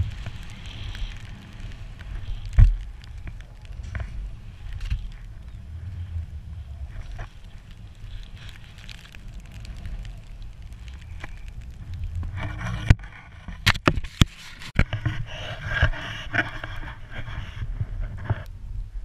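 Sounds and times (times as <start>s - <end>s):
skis scraping through snow: 0.0s - 18.4s
wind rumbling on microphone: 0.0s - 19.0s.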